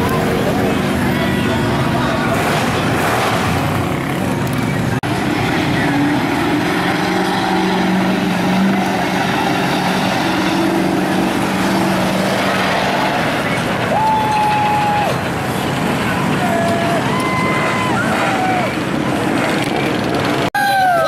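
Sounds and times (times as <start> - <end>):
pickup truck engine running: 0.0 - 20.5.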